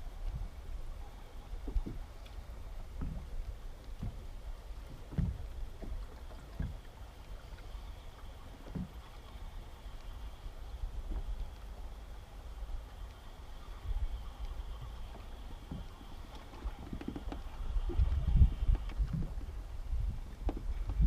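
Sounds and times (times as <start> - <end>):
boat engine low rumble: 0.0 - 21.0
water slapping against hull: 0.0 - 21.0.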